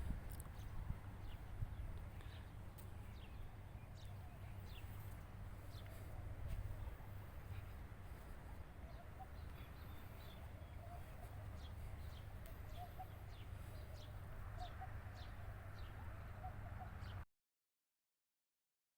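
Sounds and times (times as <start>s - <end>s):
steady low rumble: 0.0s - 15.9s
birds chirping: 0.0s - 17.2s.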